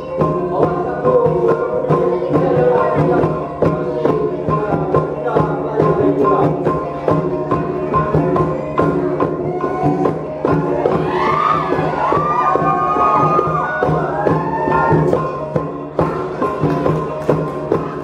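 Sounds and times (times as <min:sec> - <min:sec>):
struck percussion beat: 0:00.0 - 0:18.0.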